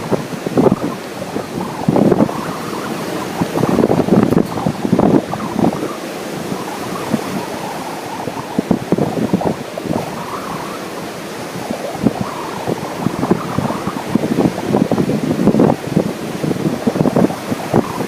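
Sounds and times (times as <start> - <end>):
ocean surf: 0.0 - 18.0
wind buffeting microphone: 0.0 - 18.0.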